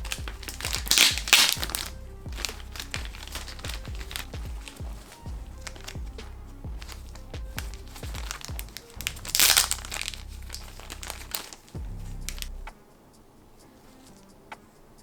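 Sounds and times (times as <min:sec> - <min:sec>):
plastic packaging crinkling: 0:00.0 - 0:12.6
background music with bass: 0:00.0 - 0:12.8.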